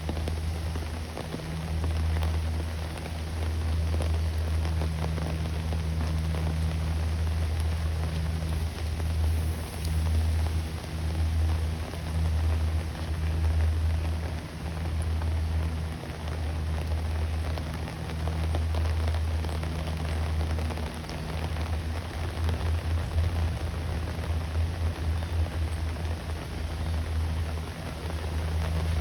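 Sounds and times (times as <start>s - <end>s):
low hum: 0.0s - 29.0s
steady rain falling: 0.0s - 29.0s.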